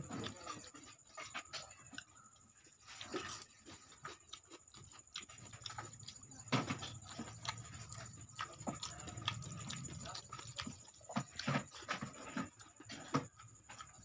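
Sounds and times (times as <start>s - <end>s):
man chewing with lip-smacking: 0.0s - 14.0s.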